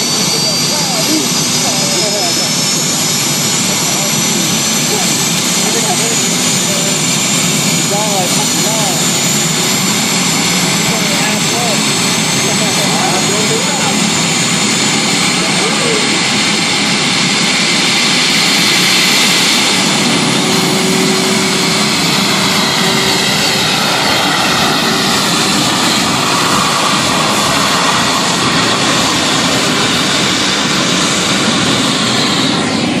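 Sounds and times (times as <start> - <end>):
jet turbine engine with high whine: 0.0 - 33.0.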